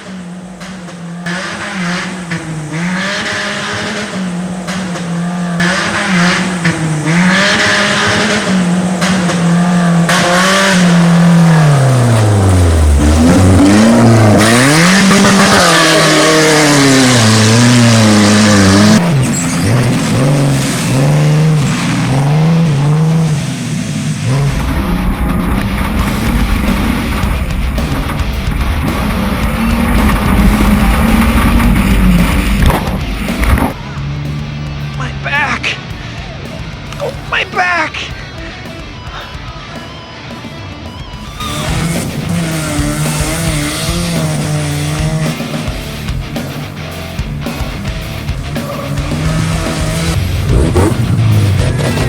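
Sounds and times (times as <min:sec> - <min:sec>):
car engine revving: 0:00.0 - 0:52.0
tire noise: 0:00.0 - 0:52.0.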